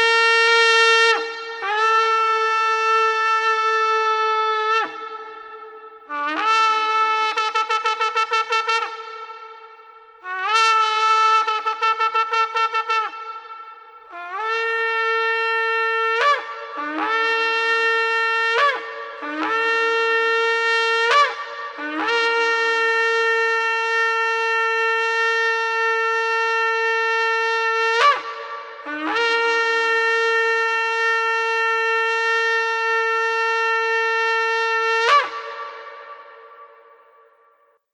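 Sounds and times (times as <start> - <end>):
shofar blowing: 0.0 - 37.7.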